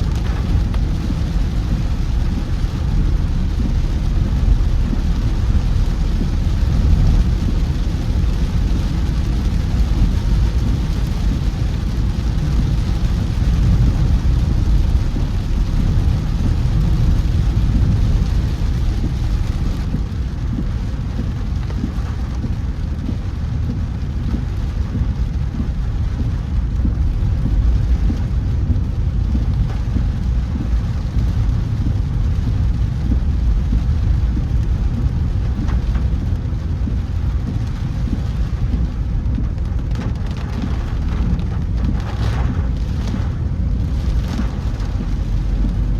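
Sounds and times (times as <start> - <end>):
car road and engine rumble: 0.0 - 45.9
rain hissing: 0.0 - 45.9.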